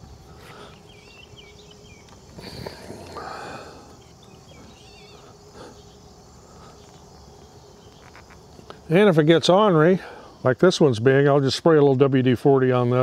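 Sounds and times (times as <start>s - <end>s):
insect-like drone: 0.0s - 11.8s.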